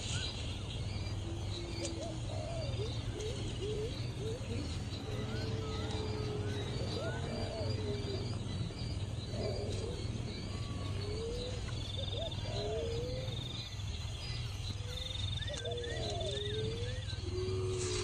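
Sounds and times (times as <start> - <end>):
low whistled bird calls: 0.0 - 18.0
steady low hum: 0.0 - 18.0.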